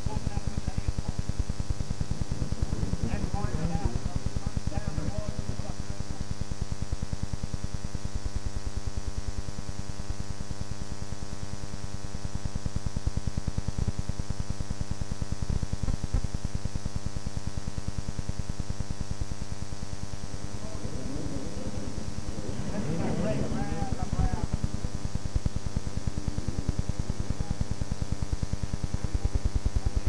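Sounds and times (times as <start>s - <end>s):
pulsing mains hum: 0.0s - 30.0s.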